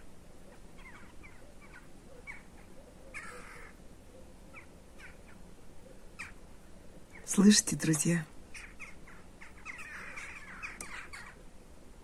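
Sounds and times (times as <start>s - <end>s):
flock of birds calling: 0.5s - 6.4s, 7.0s - 11.5s.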